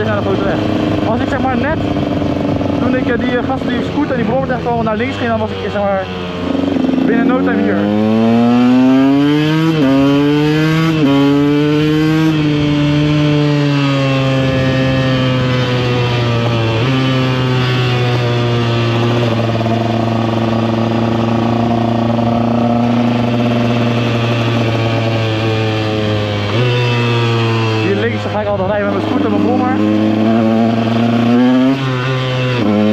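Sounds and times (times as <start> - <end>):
two-stroke motorcycle engine: 0.0 - 32.9.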